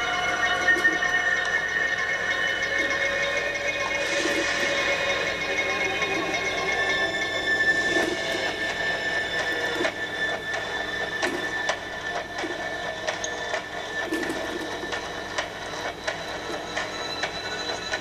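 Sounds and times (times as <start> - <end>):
mechanical rattle and clicks: 0.0 - 18.0.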